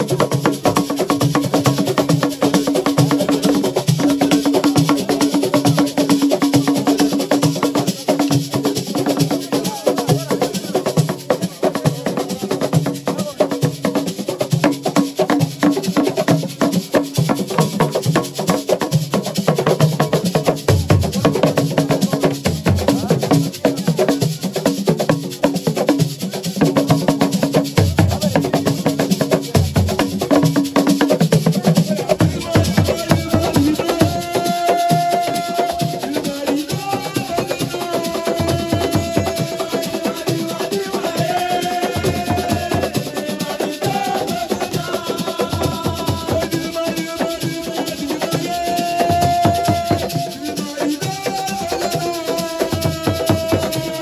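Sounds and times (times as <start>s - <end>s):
drums in fast rhythm: 0.0s - 54.0s
shakers rattling: 0.0s - 54.0s.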